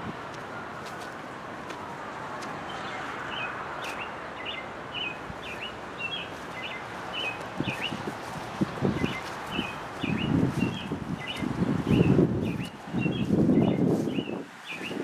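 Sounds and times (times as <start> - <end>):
outdoor noise haze: 0.0 - 15.0
songbird chirping: 2.4 - 15.0.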